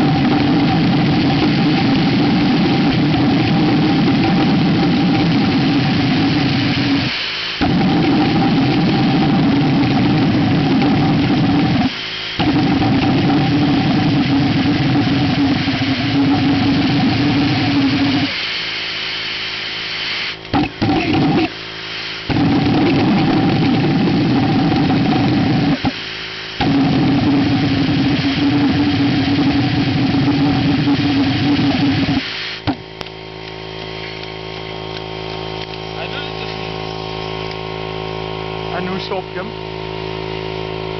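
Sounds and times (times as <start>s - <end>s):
pulsejet engine buzzing: 0.0s - 40.9s.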